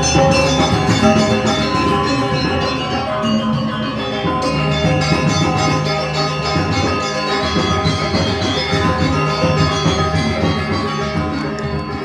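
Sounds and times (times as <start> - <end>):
gamelan ensemble playing: 0.0 - 12.0.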